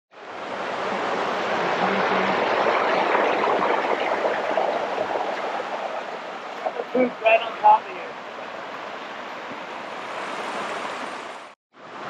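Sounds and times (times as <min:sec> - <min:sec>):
creek water running over rocks: 0:00.2 - 0:12.0.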